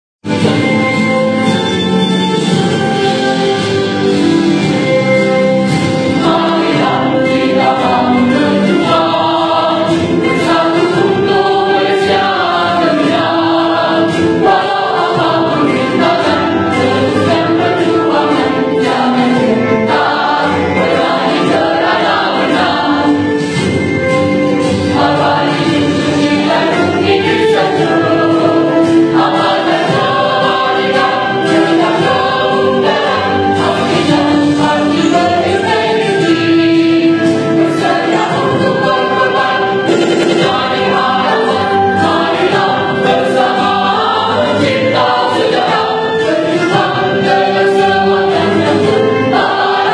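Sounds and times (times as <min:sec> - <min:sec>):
mixed choir singing: 0:00.3 - 0:49.9.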